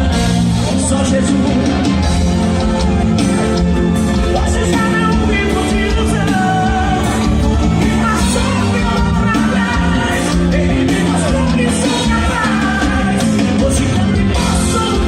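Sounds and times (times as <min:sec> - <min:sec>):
live band playing gospel music: 0:00.0 - 0:15.0
people singing: 0:02.6 - 0:15.0.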